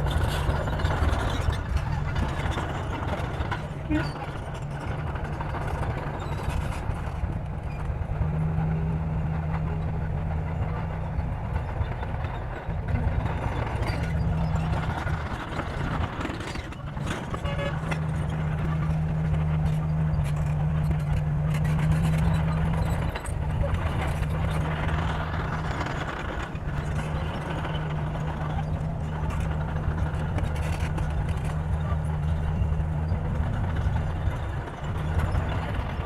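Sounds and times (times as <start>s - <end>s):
bulldozer diesel engine under load: 0.0s - 36.0s.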